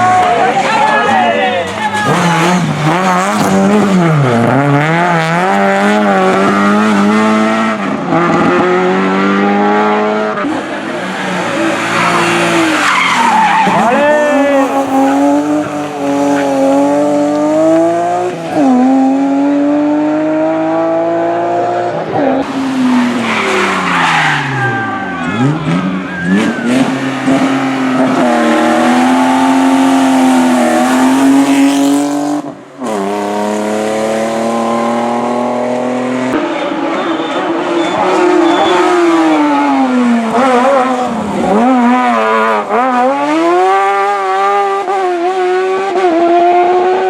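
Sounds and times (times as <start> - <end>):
race car engine at full throttle: 0.0 - 47.0.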